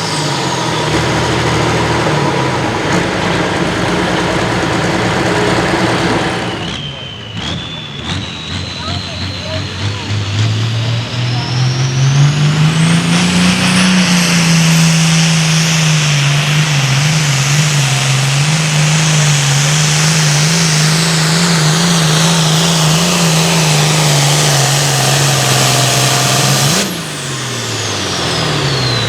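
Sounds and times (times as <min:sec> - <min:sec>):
tractor diesel engine at full throttle: 0:00.0 - 0:29.0
turbo whine: 0:00.0 - 0:29.0.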